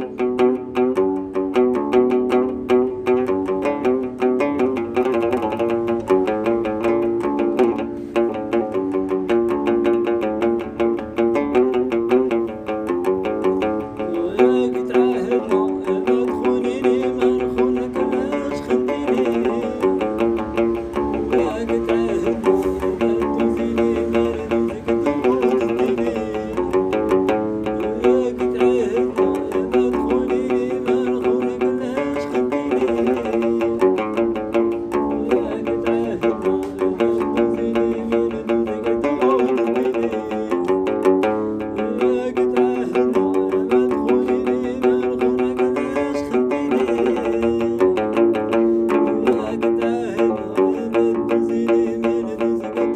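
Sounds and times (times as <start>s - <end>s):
plucked string instrumental music: 0.0s - 52.9s.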